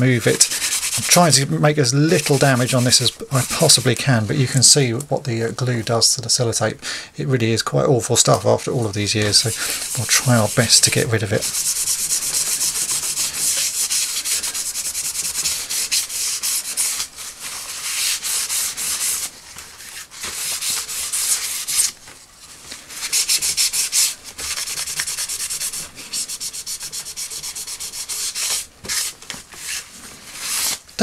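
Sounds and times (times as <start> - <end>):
towel scrubbing cardboard: 0.0 - 4.6, 8.3 - 30.9.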